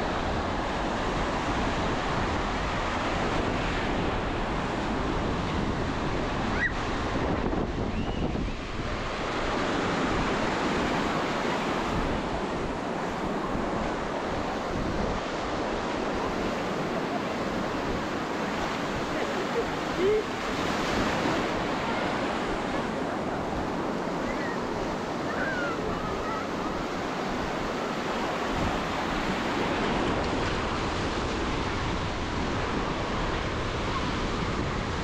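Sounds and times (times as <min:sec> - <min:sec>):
ocean surf washing on beach: 0:00.0 - 0:35.0
wind buffeting microphone: 0:00.0 - 0:35.0.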